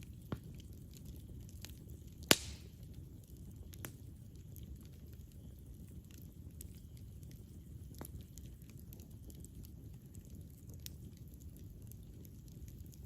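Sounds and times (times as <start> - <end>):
burning wood crackling and popping: 0.0 - 13.0
campfire flames rumbling: 0.0 - 13.0.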